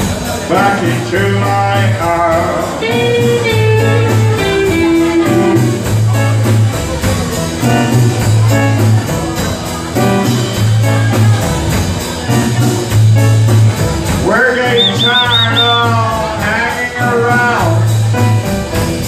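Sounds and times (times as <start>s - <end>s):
bass guitar: 0.0s - 19.0s
electric guitar lead: 0.8s - 16.2s.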